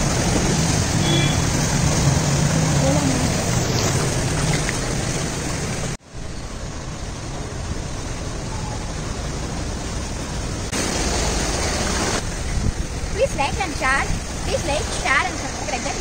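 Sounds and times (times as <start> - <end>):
floodwater rushing across road: 0.0 - 16.0.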